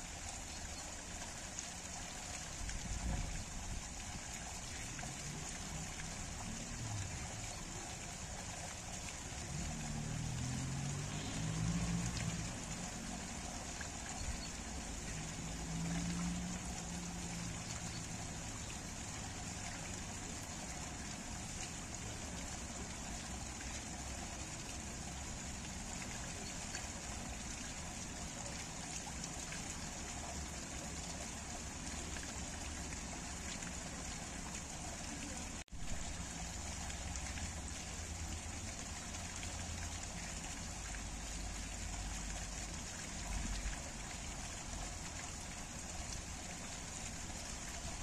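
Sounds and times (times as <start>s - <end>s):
water splashing onto rocks: 2.5s - 48.0s.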